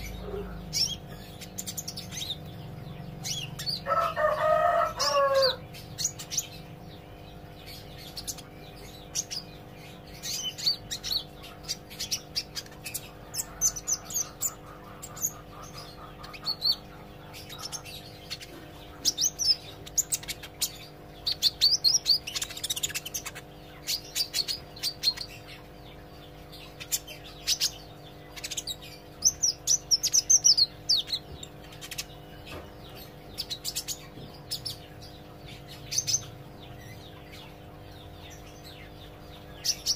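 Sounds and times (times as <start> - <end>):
bird chirping and twittering: 0.0 - 39.9
steady low hum: 0.0 - 39.9.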